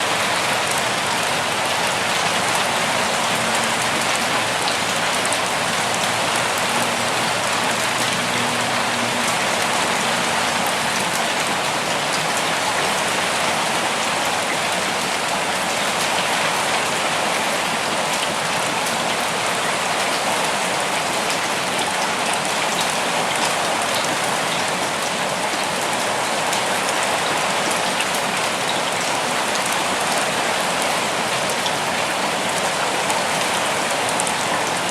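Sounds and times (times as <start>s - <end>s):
rain falling in a forest: 0.0s - 34.9s.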